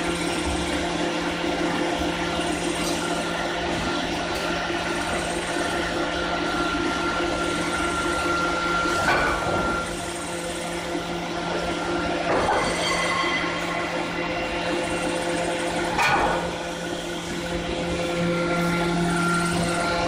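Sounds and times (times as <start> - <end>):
conveyor machinery hum and whine: 0.0 - 20.0.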